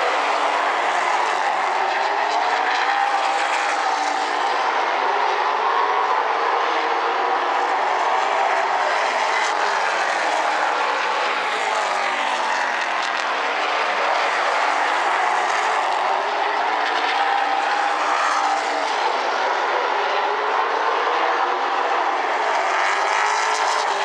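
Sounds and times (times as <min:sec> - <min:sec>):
stock cars racing: 0:00.0 - 0:24.0.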